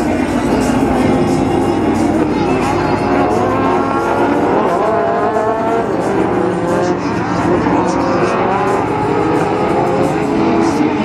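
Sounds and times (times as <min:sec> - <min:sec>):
racing truck engines revving: 0:00.0 - 0:11.0.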